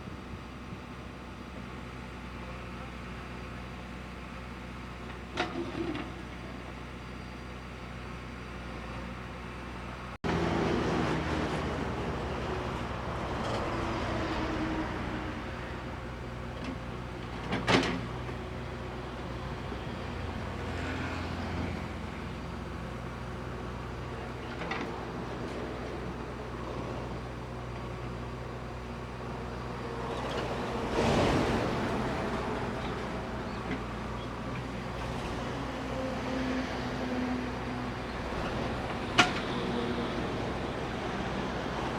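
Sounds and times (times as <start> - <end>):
backhoe diesel engine running: 0.0 - 41.9.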